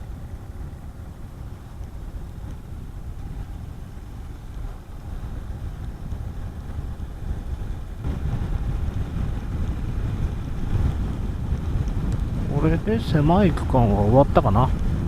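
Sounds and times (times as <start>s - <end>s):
motorcycle road noise: 0.0s - 15.0s
wind rushing over microphone: 0.0s - 15.0s.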